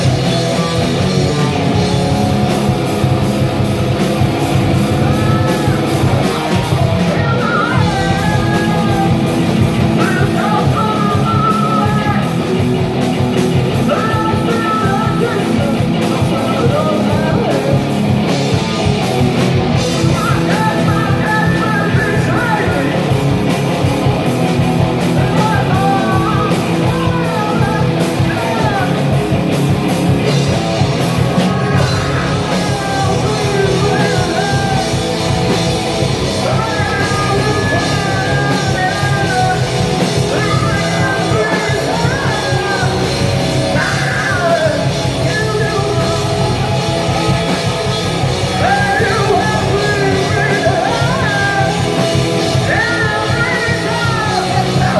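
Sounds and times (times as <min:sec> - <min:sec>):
person singing: 0:00.0 - 0:18.8, 0:19.8 - 0:23.8, 0:24.9 - 0:29.5, 0:30.2 - 0:54.9
bass guitar: 0:00.0 - 0:54.9
drums with cymbals: 0:00.0 - 0:54.9
electric guitar: 0:00.0 - 0:54.9.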